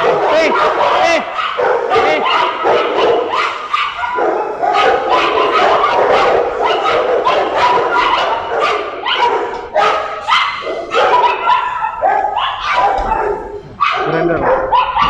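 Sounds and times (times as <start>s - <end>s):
dogs barking: 0.0s - 15.0s.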